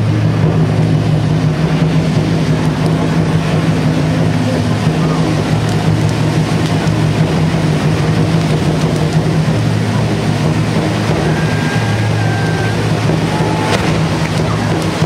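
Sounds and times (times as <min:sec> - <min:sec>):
fireworks rushing with deep rumble: 0:00.0 - 0:15.0.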